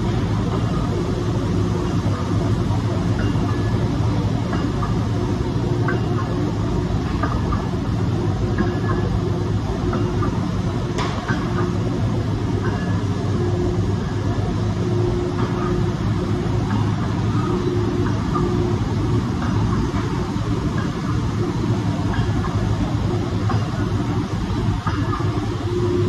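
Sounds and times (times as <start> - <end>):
factory machinery droning: 0.0 - 26.0.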